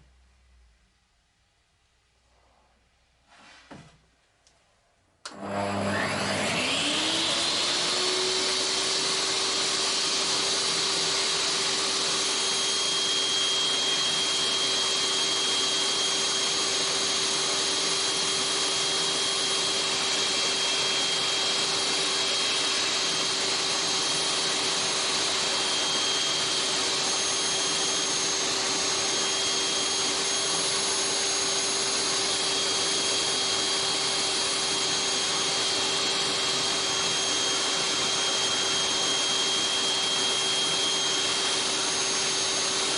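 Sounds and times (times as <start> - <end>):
electric power saw cutting: 5.3 - 42.9.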